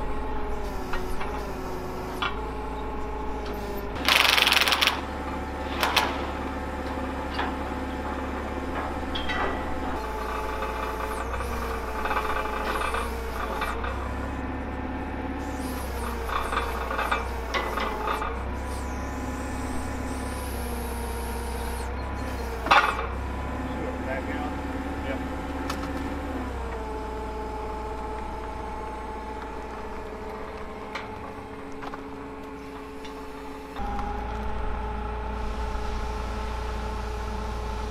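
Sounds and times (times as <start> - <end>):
steady whine: 0.0 - 22.0, 22.6 - 37.9
forklift engine idling: 0.0 - 37.9.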